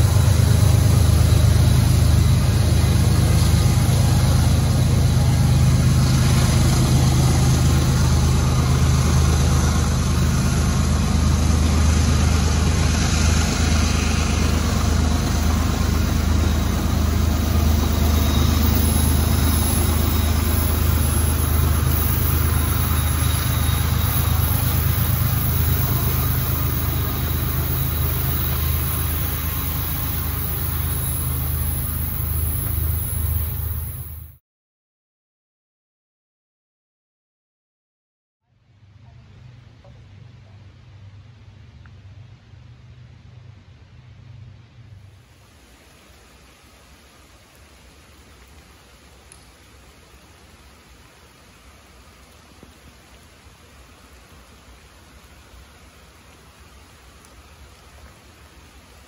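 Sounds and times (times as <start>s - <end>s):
diesel locomotive engine rumble: 0.0s - 34.4s, 38.6s - 59.0s.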